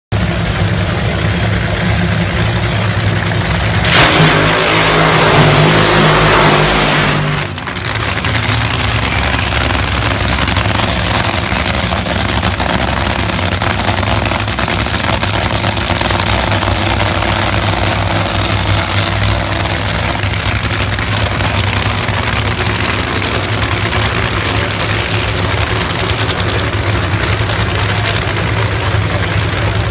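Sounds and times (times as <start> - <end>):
engines idling loudly: 0.1 - 29.9
drag racer burnout: 0.2 - 29.9.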